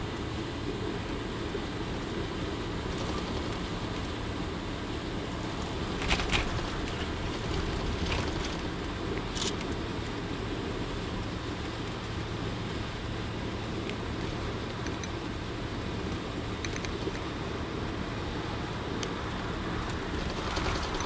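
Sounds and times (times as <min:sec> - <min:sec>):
vehicle engine and tyre rumble: 0:00.0 - 0:21.0.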